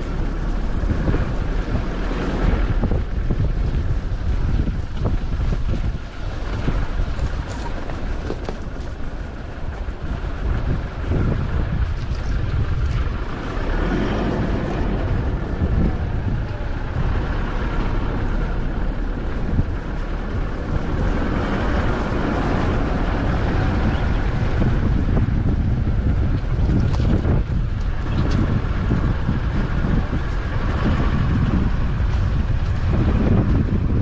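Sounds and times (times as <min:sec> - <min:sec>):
strong wind gusting through trees: 0:00.0 - 0:34.0
wind buffeting microphone: 0:00.0 - 0:34.0.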